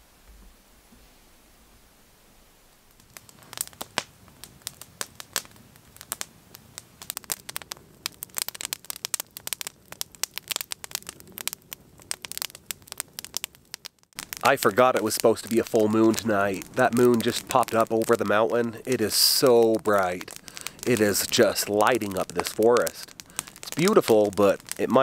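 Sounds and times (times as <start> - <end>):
campfire crackling: 2.6 - 25.0
sharp fire pops: 2.9 - 25.0.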